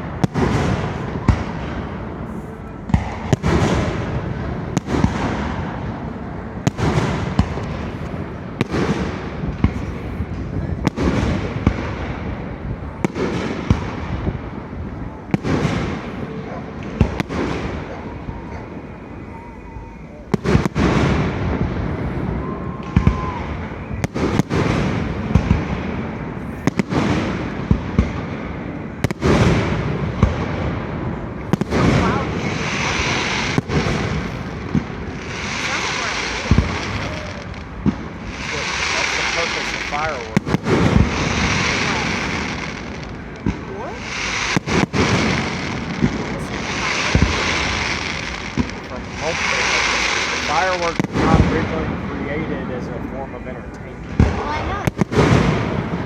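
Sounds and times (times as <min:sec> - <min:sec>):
fireworks booms and cracks: 0:00.0 - 0:19.1, 0:20.3 - 0:56.0
steady fireworks rumble: 0:00.0 - 0:56.0.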